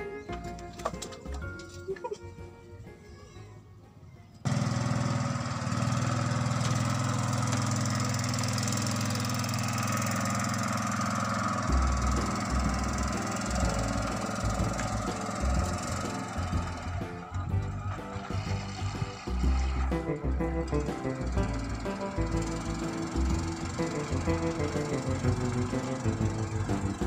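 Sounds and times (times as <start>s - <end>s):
small boat motor running: 4.4s - 27.0s.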